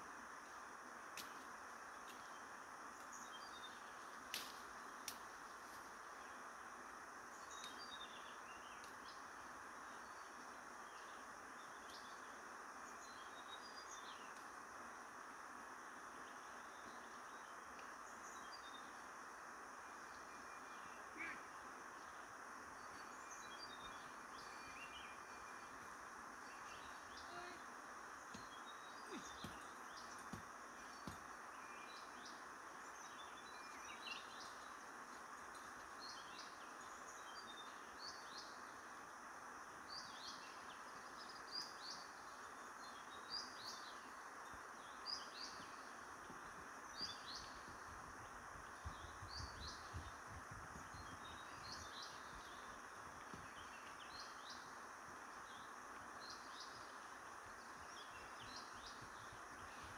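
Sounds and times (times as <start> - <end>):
steady background hiss: 0.0 - 59.9
small birds chirping: 1.2 - 59.9.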